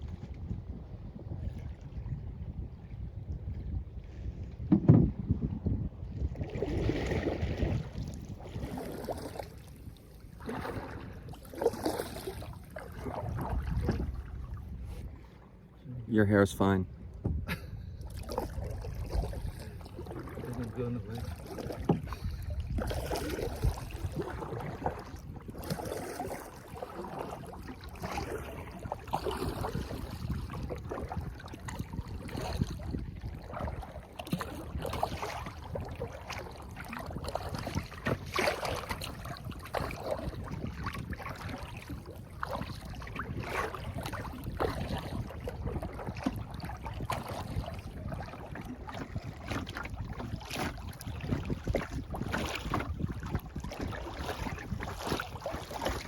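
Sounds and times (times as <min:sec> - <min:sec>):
water lapping against hull: 0:00.0 - 0:56.0
wind noise on microphone: 0:00.0 - 0:56.0
paddle splashing in water: 0:06.1 - 0:15.8, 0:17.2 - 0:56.0.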